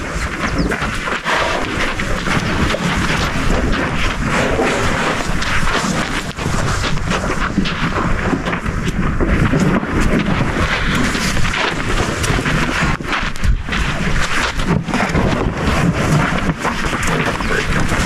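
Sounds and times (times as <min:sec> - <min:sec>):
elephant footsteps thuds and scuffs: 0:00.0 - 0:18.0
low rumble: 0:00.0 - 0:18.0
wind buffeting microphone: 0:00.0 - 0:18.0.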